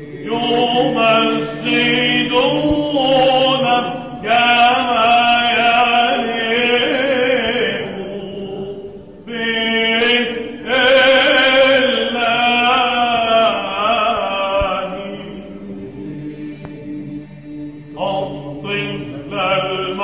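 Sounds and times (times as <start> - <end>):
low vocal drone: 0.0 - 20.0
man chanting: 0.2 - 15.6, 18.0 - 20.0.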